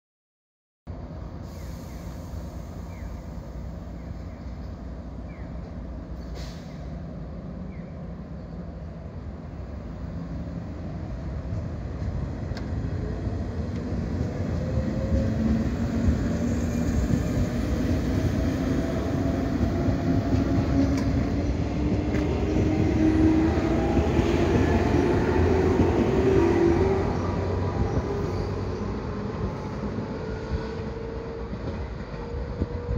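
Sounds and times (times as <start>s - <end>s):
wheels rumbling on rails: 2.1s - 32.9s.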